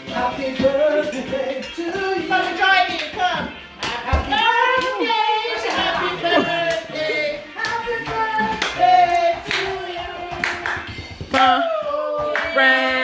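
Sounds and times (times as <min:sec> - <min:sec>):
group of voices singing: 0:00.0 - 0:13.0
hand clapping: 0:02.4 - 0:13.0.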